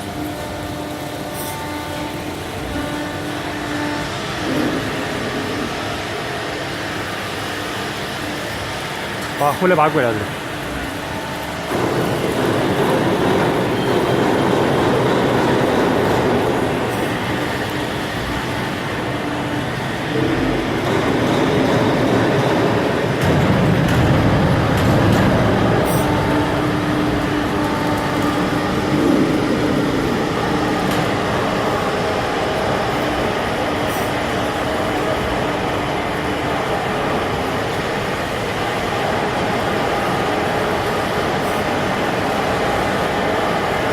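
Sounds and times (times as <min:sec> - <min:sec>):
hydraulic press brake running: 0:00.0 - 0:43.9
machine hum: 0:00.0 - 0:43.9.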